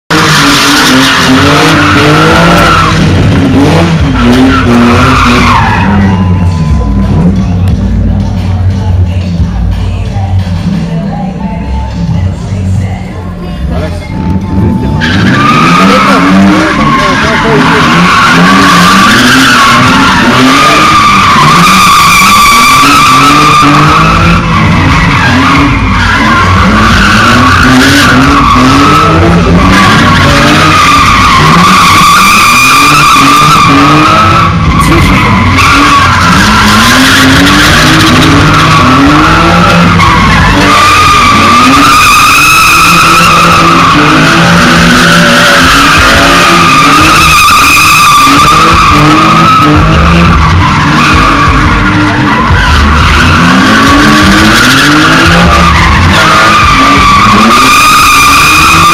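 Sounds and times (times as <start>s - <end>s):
car engine revving: 0.0s - 58.9s
car tyres squealing on tarmac: 0.1s - 11.1s, 13.5s - 58.9s.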